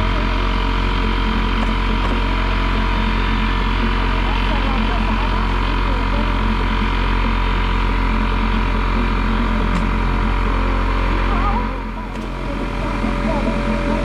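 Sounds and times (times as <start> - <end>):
steady engine drone: 0.0 - 14.0.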